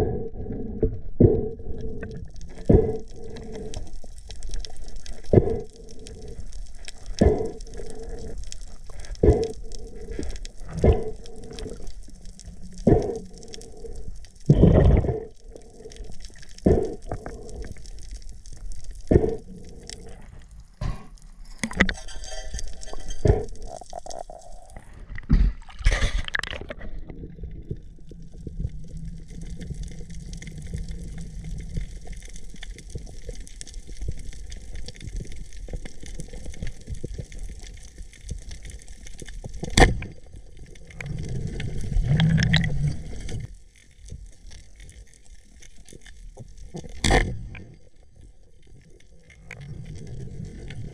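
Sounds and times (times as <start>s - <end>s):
water sloshing and gurgling: 0.0s - 50.9s.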